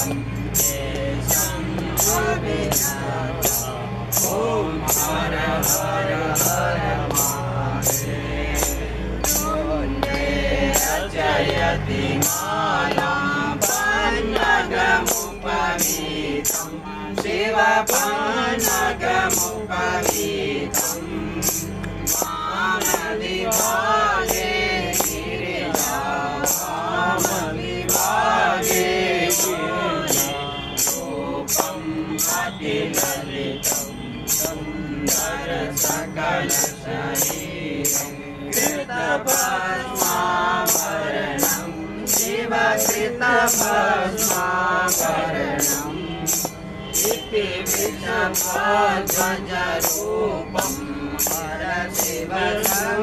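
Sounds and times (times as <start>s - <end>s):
group singing a hymn: 0.0s - 53.0s
metal percussion beat: 0.0s - 53.0s.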